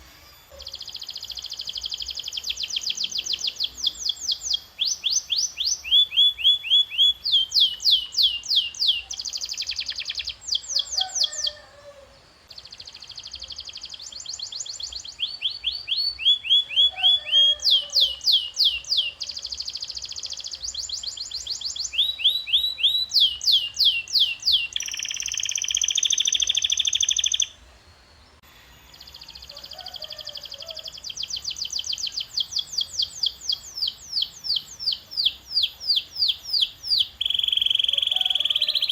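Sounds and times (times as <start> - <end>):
canary singing: 0.0 - 27.6, 28.2 - 38.9.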